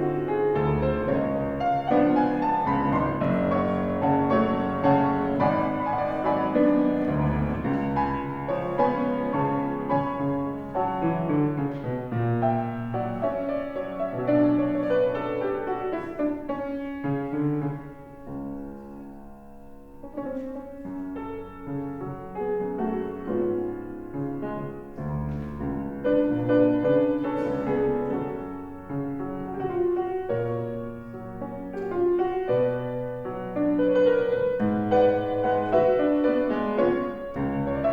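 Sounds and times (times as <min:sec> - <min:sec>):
solo piano: 0:00.0 - 0:37.9.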